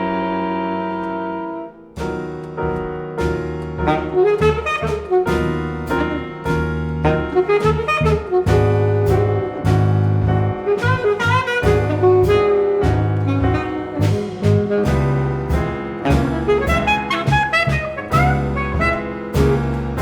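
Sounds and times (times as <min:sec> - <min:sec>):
double bass: 0:00.0 - 0:20.0
piano: 0:00.0 - 0:20.0
drums: 0:02.0 - 0:20.0
alto saxophone: 0:03.8 - 0:20.0
trumpet and trombone: 0:03.8 - 0:20.0.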